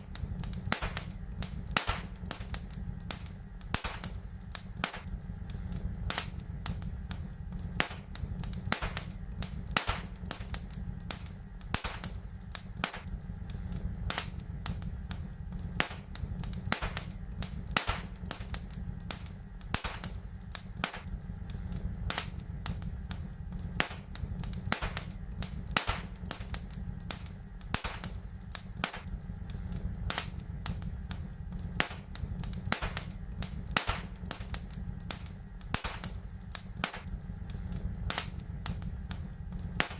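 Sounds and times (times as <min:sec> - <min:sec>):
fire crackling and popping: 0:00.0 - 0:39.9
low rumble: 0:00.0 - 0:39.9.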